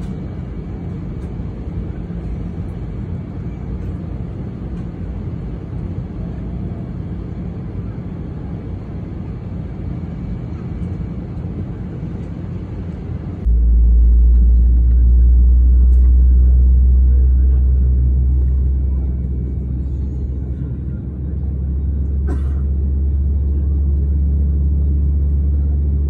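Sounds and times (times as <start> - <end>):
jet cabin drone: 0.0 - 26.0.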